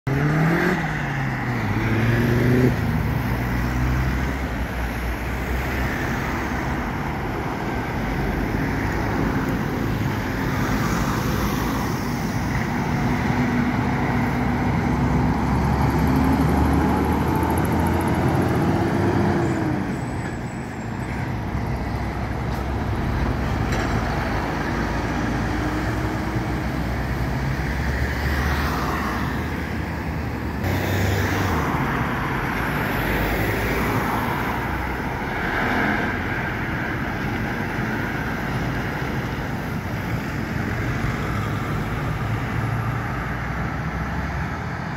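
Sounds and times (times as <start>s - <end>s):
truck engines accelerating: 0.1s - 44.9s
tyre and engine noise: 0.1s - 44.9s.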